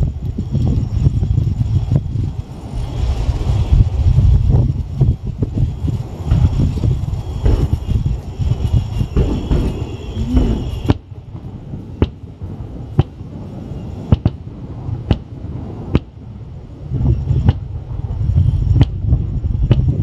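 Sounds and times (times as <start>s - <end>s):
fireworks exploding: 0.0s - 20.0s.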